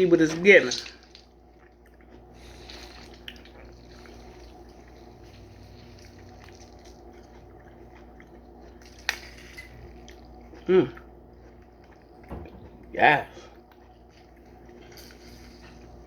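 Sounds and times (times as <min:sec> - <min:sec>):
juice dripping: 0:00.0 - 0:16.0.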